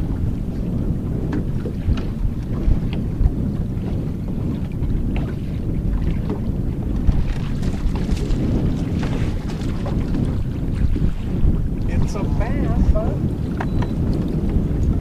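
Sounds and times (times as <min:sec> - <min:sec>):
waves splashing against boat hull: 0:00.0 - 0:15.0
wind buffeting microphone: 0:00.0 - 0:15.0.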